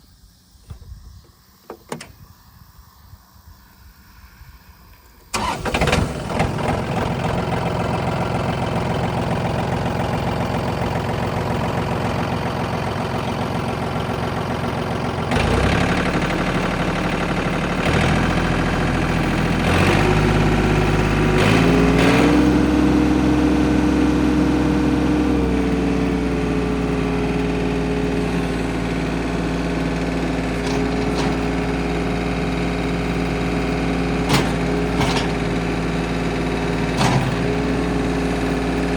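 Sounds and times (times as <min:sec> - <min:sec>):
tractor diesel engine running: 0:05.2 - 0:38.9.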